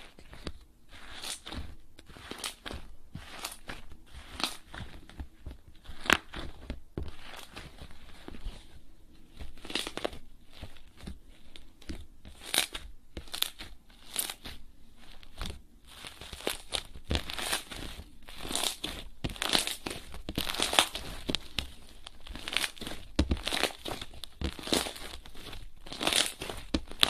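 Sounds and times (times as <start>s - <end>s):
hands squeezing slime: 0.0s - 27.0s
slime crackling and popping: 1.0s - 8.6s, 9.3s - 27.0s.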